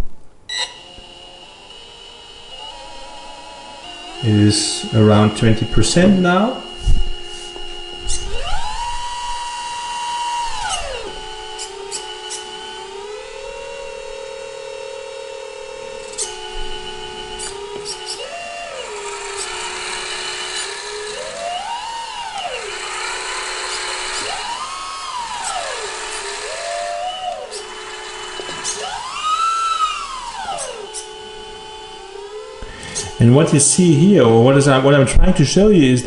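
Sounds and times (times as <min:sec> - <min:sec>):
electric hydraulic pump whining: 0:00.0 - 0:36.0.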